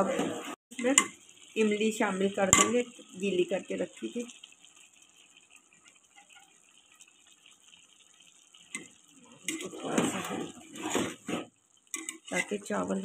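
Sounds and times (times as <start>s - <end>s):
water boiling and bubbling: 0.0s - 13.0s.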